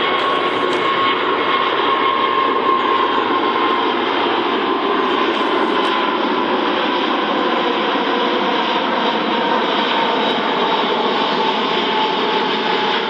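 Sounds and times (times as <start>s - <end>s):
jet engines roaring with whine: 0.0s - 13.0s.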